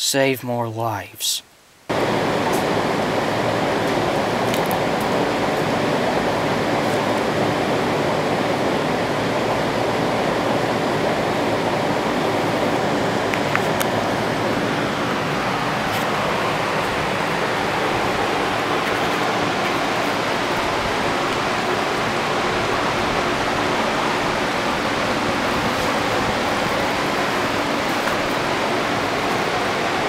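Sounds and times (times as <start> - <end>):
fan and swirling air rushing: 1.9 - 30.0.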